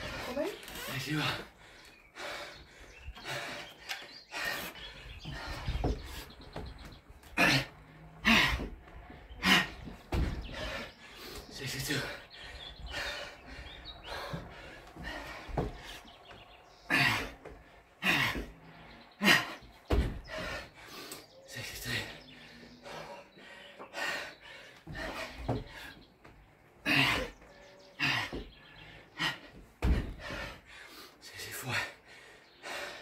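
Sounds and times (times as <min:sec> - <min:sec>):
man breathing hard: 0:00.0 - 0:33.0.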